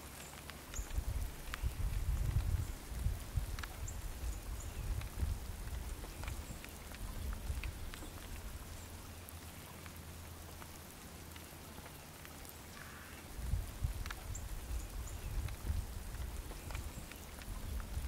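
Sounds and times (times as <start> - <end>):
light rain pattering: 0.0 - 18.0.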